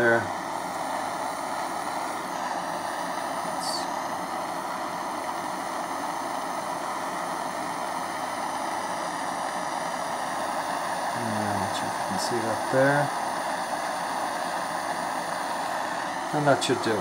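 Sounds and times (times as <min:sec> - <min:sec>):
jet torch flame hissing: 0:00.0 - 0:17.0.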